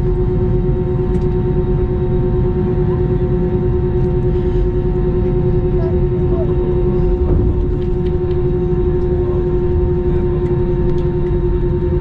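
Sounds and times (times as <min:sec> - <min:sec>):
jet engine rumble in cabin: 0:00.0 - 0:12.0
jet engine whine: 0:00.0 - 0:12.0.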